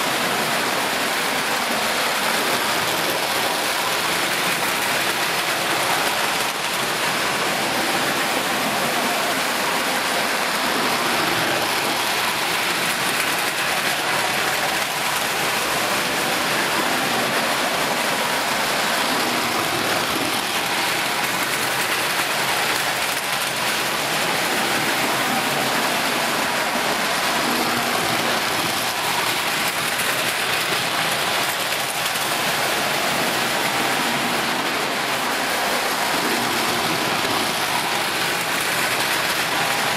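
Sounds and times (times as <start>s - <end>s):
toy electric trains whirring: 0.0s - 39.9s.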